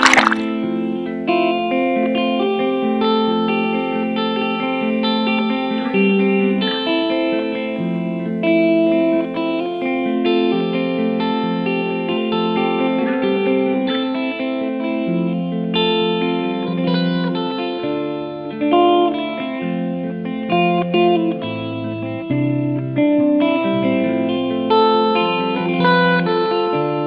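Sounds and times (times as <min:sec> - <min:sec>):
instrumental guitar music: 0:00.0 - 0:27.0.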